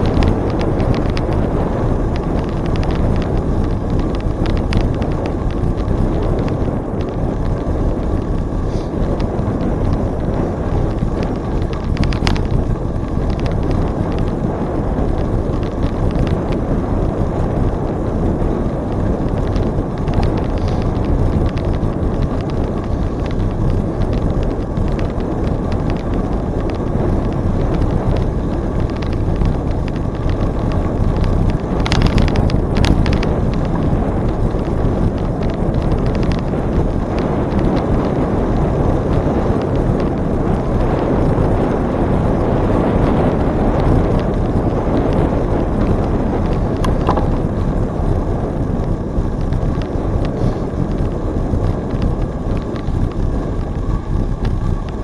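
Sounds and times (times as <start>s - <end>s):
bicycle tyre noise on trail: 0.0s - 55.0s
wind rushing over microphone: 0.0s - 55.0s.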